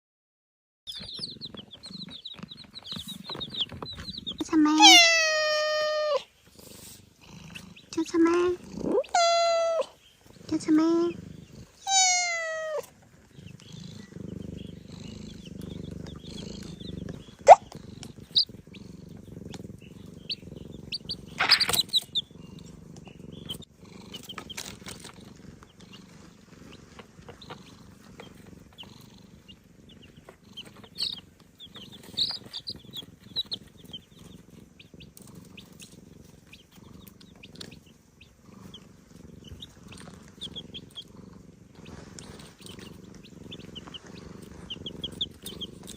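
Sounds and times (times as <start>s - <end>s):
cat purring: 0.9s - 45.9s
chicks peeping: 0.9s - 45.9s.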